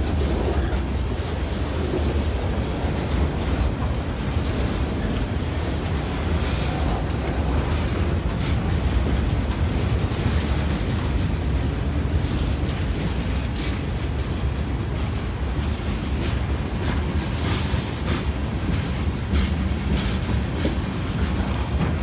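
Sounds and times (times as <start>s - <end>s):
freight train wheels rumbling: 0.0s - 22.0s
wheel clacks: 0.0s - 22.0s.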